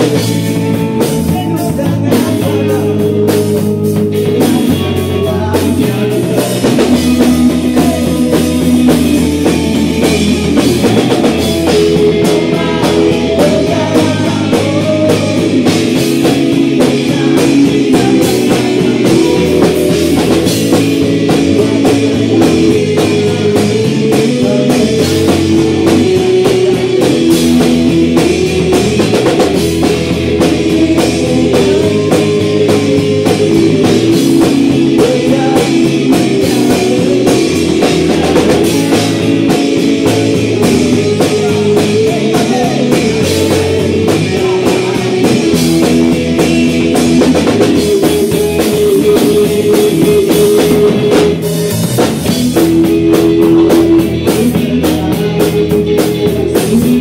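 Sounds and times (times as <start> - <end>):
bass guitar: 0.0 - 57.0
distorted electric guitar: 0.0 - 57.0
drum kit: 0.0 - 57.0
person singing: 0.0 - 57.0.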